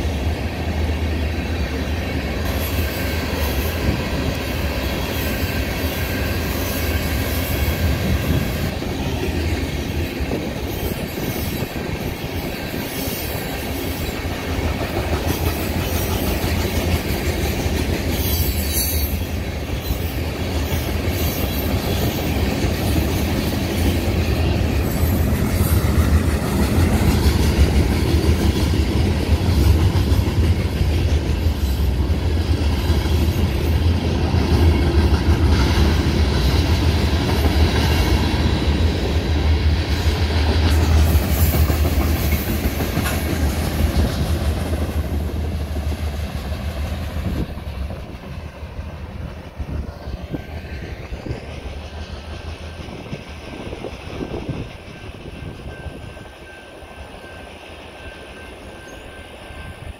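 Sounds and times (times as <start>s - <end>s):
train rumbling past: 0.0s - 59.9s
wheels clacking over rail joints: 2.2s - 56.3s.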